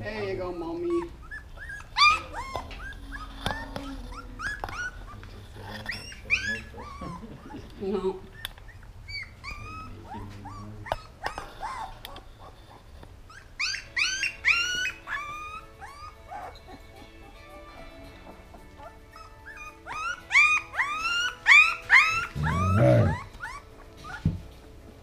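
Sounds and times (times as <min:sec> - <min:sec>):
puppy screaming: 0:00.4 - 0:07.7, 0:08.4 - 0:12.2, 0:13.3 - 0:17.4, 0:18.6 - 0:24.3.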